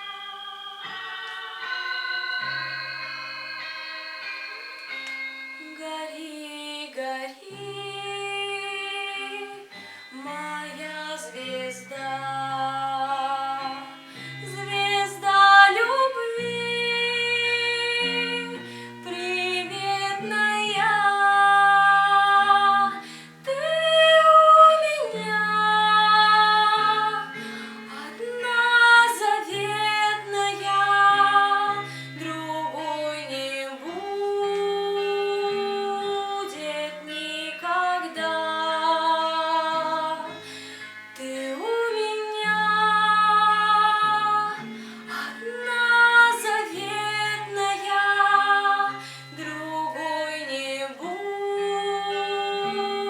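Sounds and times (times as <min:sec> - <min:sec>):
instrumental accompaniment: 0:00.0 - 0:51.4
woman singing: 0:00.0 - 0:53.0.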